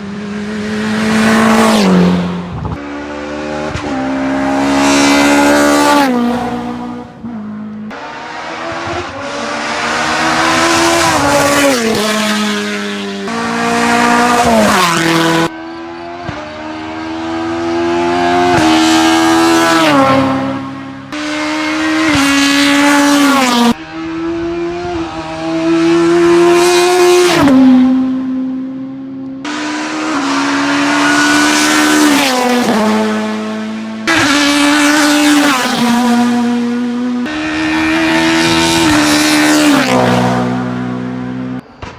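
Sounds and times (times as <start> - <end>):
race car engines revving: 0.0 - 41.7.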